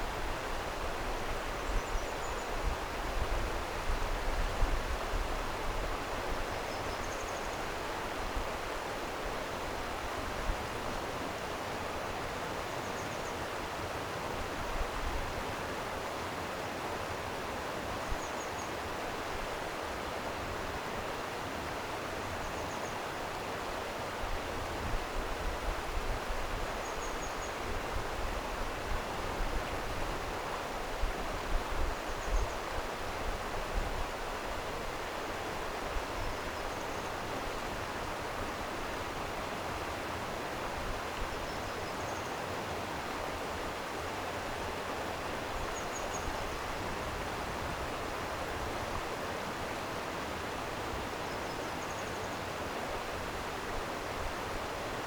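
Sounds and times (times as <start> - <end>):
stream water rushing: 7.5 - 12.8, 13.4 - 22.4, 23.0 - 55.0.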